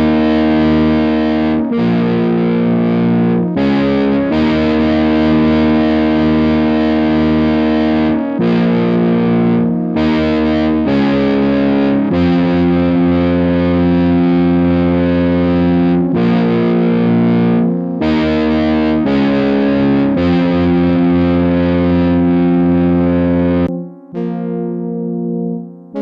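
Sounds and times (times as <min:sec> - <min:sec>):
overdriven synthesizer chords: 0:00.0 - 0:26.0.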